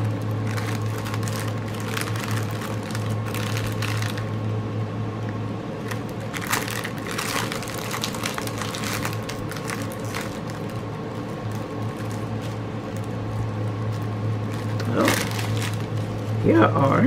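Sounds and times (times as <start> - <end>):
plastic bags crinkling: 0.0 - 4.4, 5.8 - 17.0
steady low hum: 0.0 - 17.0.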